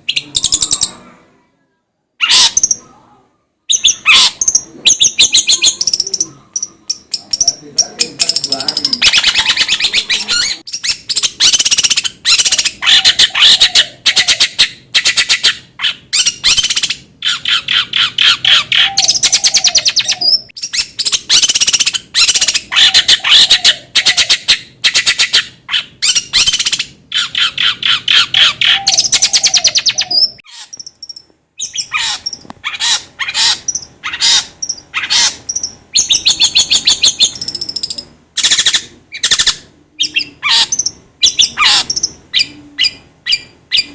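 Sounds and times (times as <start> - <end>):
bird harsh chattering song: 0.0 - 1.0, 2.2 - 3.0, 3.7 - 43.9.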